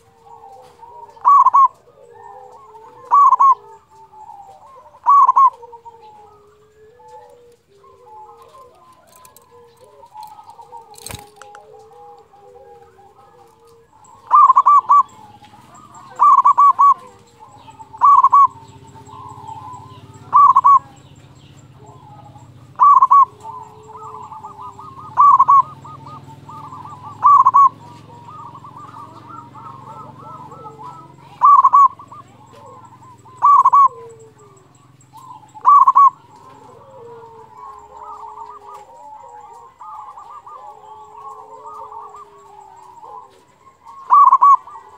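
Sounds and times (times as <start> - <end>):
dove cooing: 0.0 - 44.9
other birds calling softly: 0.0 - 44.9.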